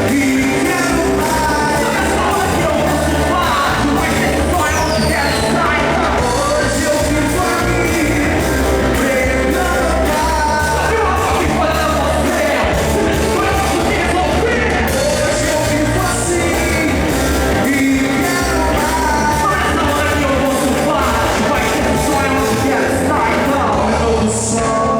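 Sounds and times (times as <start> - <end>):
person singing: 0.0 - 24.9
rock praise band playing: 0.0 - 24.9.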